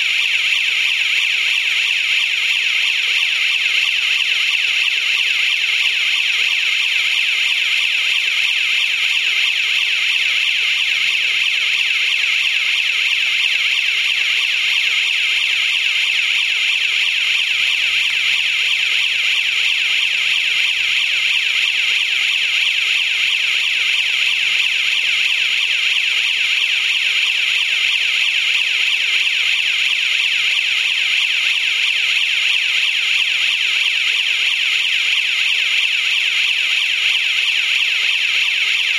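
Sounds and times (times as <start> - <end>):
warbling electronic siren: 0.0 - 38.9.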